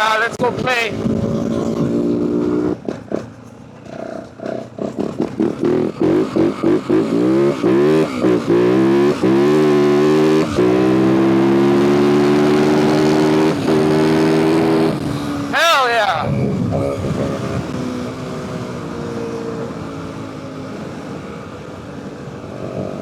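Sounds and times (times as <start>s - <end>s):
dirt bike engine revving: 0.0s - 21.2s.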